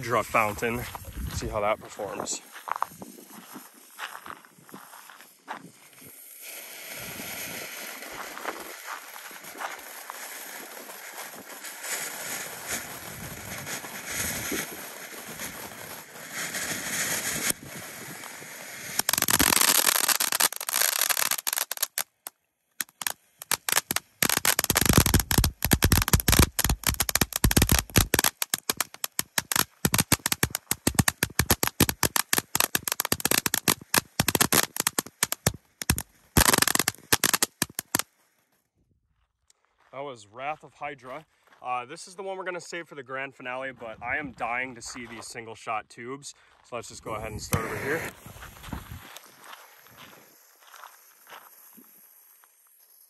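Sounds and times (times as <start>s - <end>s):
firework fountain hissing and crackling: 0.0s - 38.3s, 47.2s - 53.0s.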